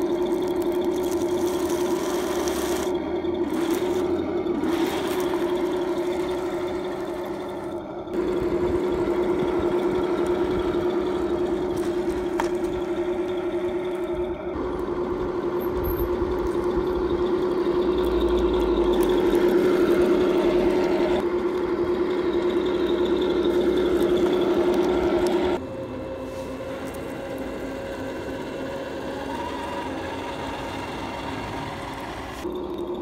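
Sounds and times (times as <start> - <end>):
toy tank drivetrain whine: 0.0 - 33.0.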